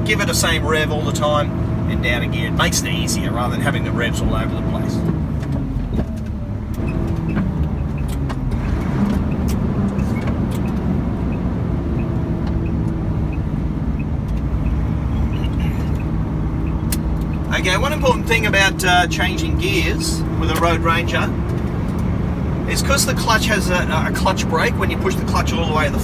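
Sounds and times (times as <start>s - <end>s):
truck engine running in cab: 0.0s - 26.0s.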